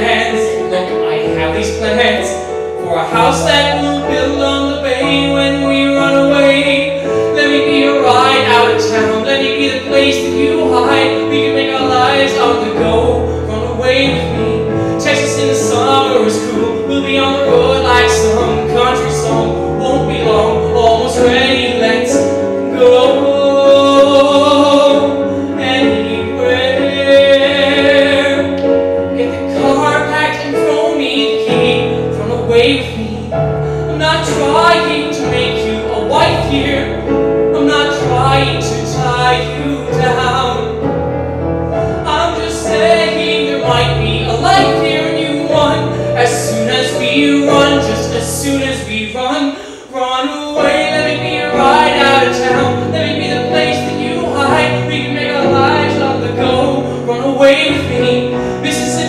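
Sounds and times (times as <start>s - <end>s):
man singing a musical ballad: 0.0s - 59.0s.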